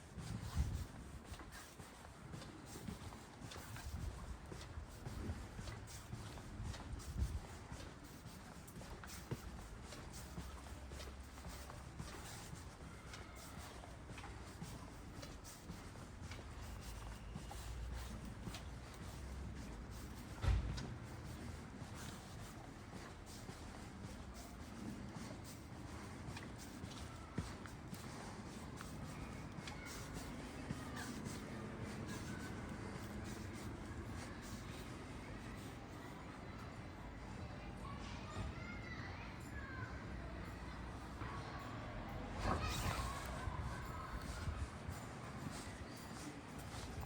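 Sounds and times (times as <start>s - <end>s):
faint clicks and scuffs: 0.0s - 47.0s.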